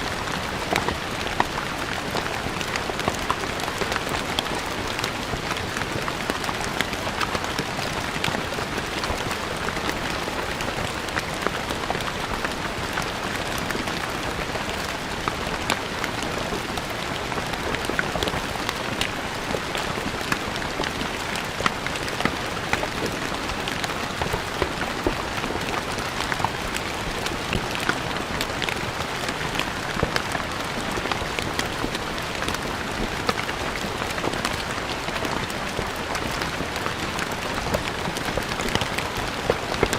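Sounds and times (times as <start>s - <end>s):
rain on stone paving: 0.0s - 39.9s.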